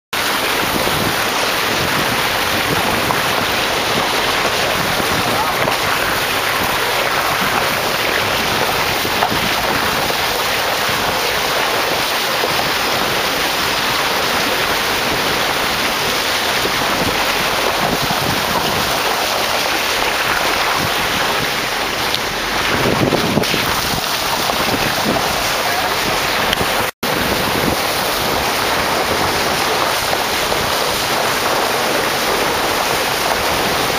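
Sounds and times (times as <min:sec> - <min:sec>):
water churned by tyres: 0:00.1 - 0:33.9
wind on microphone: 0:00.2 - 0:33.9.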